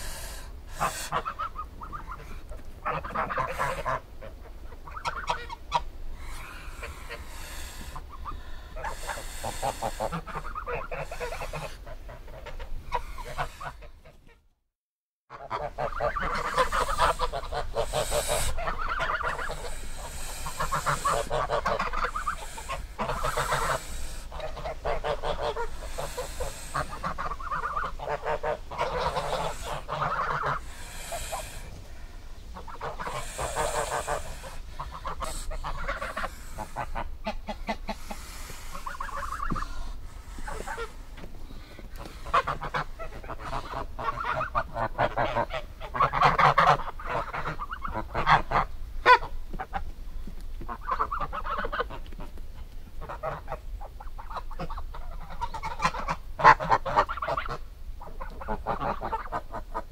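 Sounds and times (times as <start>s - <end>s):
geese honking: 0.0s - 14.4s, 15.3s - 49.7s, 50.7s - 52.0s, 53.0s - 59.9s.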